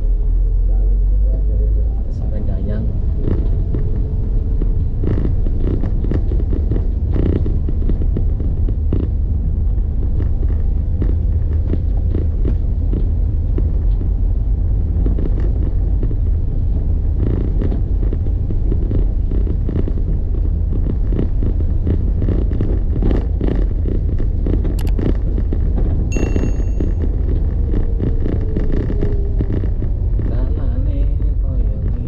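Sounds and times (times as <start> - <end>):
vehicle low rumble: 0.0 - 32.0
wind buffeting microphone: 2.0 - 32.0.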